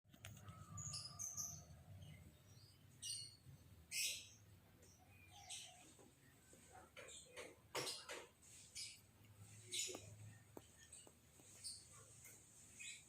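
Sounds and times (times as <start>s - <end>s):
lovebirds chirping: 0.2s - 13.0s.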